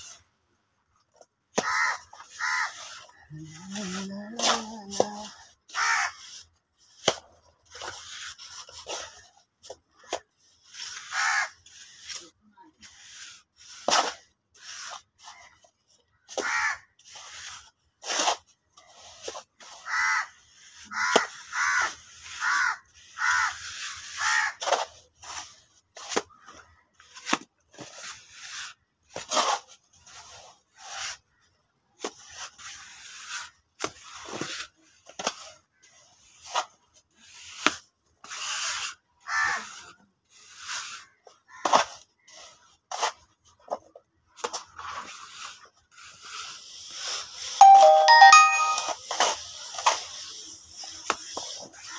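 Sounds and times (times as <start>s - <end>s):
trowels slapping and scraping mortar: 0.0s - 47.6s, 48.7s - 51.9s.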